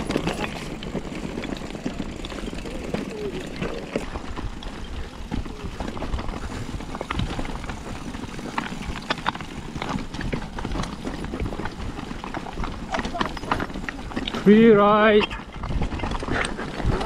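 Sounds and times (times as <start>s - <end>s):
bike knocks and rattles: 0.0s - 17.0s
tyres and wind rumble: 0.0s - 17.0s.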